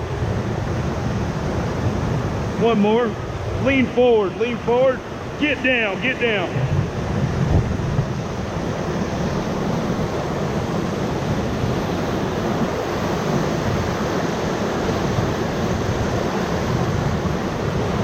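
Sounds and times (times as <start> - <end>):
whitewater rushing: 0.0 - 18.0.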